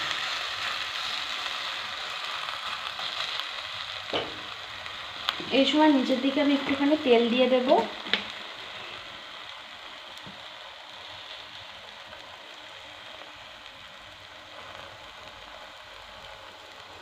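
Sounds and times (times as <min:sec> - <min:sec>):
omelette sizzling in a frying pan: 0:00.0 - 0:17.0.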